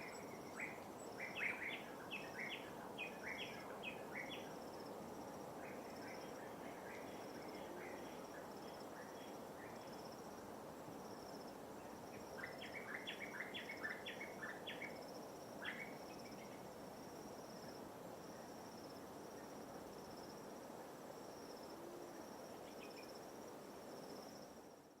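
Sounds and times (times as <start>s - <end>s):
insect chirping: 0.0s - 25.0s.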